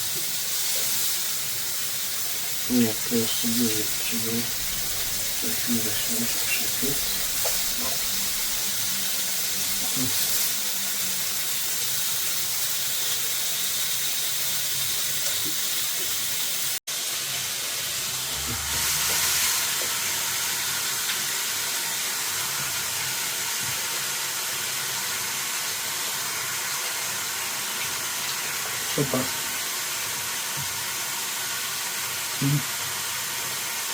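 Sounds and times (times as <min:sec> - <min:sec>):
chicken frying in oil: 0:00.0 - 0:33.9.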